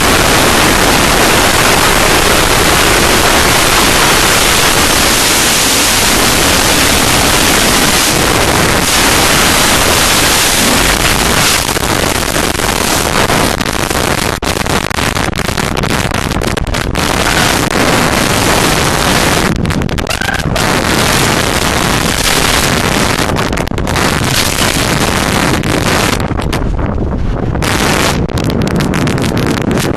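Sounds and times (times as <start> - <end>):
wind blasting over microphone: 0.0 - 29.9.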